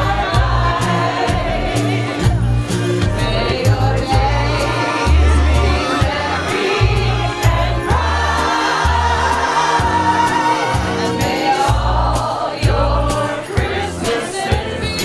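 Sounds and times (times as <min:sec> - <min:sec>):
bass line: 0:00.0 - 0:15.0
group singing in chorus: 0:00.0 - 0:15.0
percussion beat: 0:00.0 - 0:15.0.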